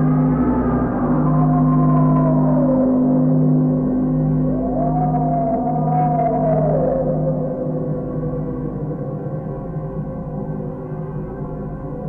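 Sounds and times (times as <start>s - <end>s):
eerie ringing drone tones: 0.0s - 12.0s.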